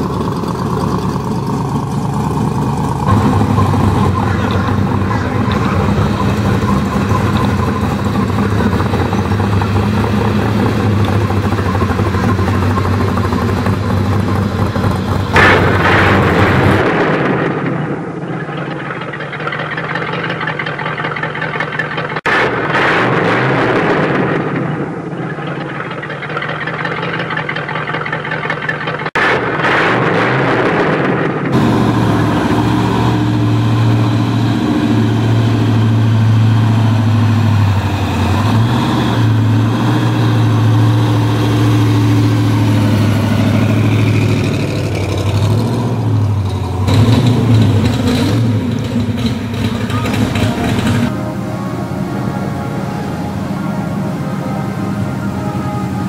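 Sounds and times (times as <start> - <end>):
car engines rumbling and revving: 0.0 - 56.0.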